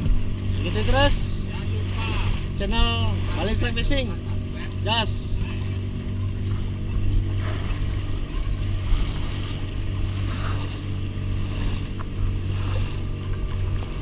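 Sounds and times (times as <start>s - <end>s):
boat engine running: 0.0s - 14.0s
water rushing past: 0.0s - 14.0s
wind: 0.0s - 14.0s.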